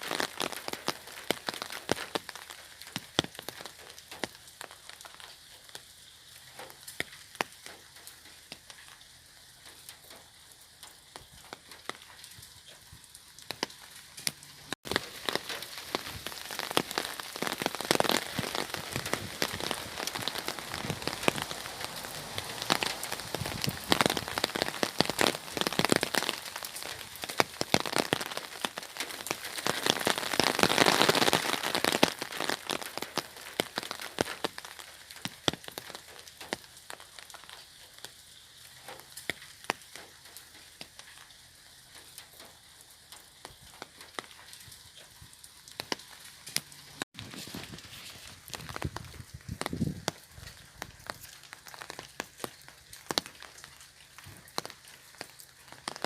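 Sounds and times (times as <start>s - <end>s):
rain falling on an umbrella: 0.0s - 56.0s.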